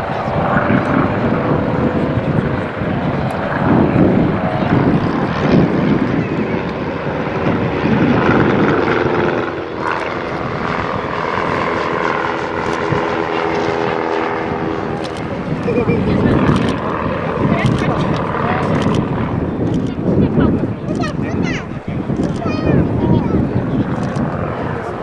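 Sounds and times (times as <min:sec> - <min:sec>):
propeller aircraft engines: 0:00.0 - 0:25.0.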